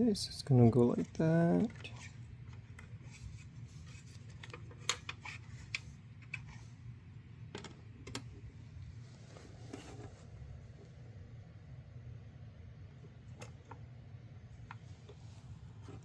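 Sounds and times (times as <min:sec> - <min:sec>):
faint low room hum: 0:00.0 - 0:16.0.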